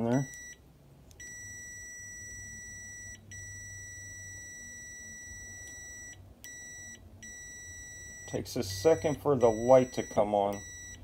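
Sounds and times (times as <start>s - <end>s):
high-pitched continuity beep tone: 0.1s - 0.6s, 1.2s - 11.0s.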